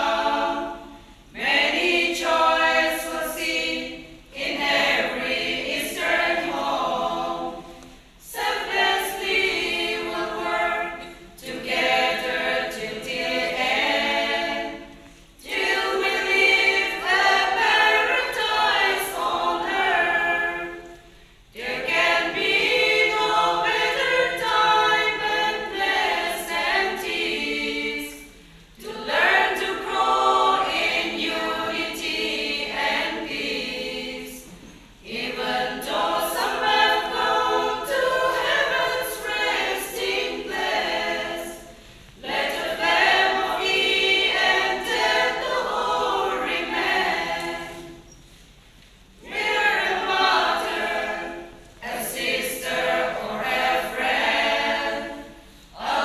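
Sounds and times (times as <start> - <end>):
women's choir singing: 0.0 - 48.4, 49.1 - 56.0.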